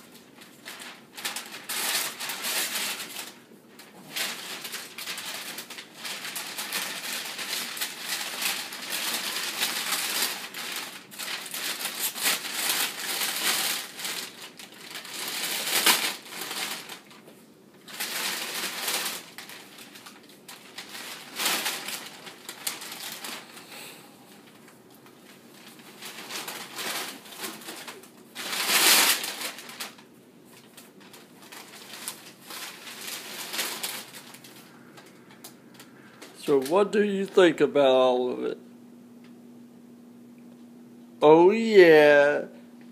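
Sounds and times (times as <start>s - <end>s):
wrapping paper ripping: 0.0s - 23.6s, 24.4s - 37.5s.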